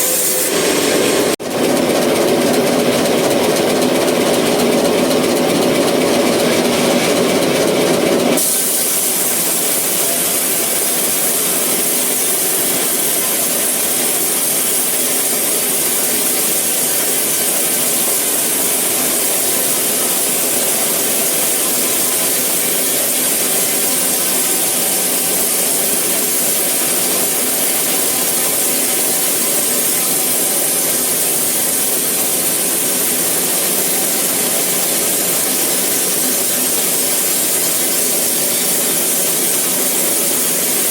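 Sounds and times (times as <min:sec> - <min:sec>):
saw blade hissing through log: 0:00.0 - 0:01.4, 0:08.3 - 0:40.9
sawmill saw humming: 0:00.0 - 0:40.9.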